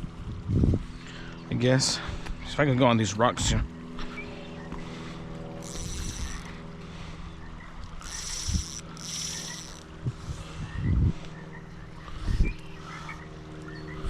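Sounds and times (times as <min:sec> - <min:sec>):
low motor hum: 0:00.0 - 0:02.6, 0:03.2 - 0:14.0.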